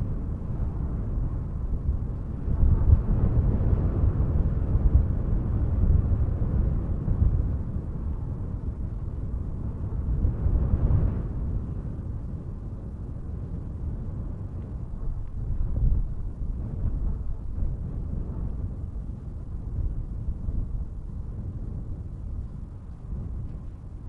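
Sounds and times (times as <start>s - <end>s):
wind rumble: 0.0s - 24.0s.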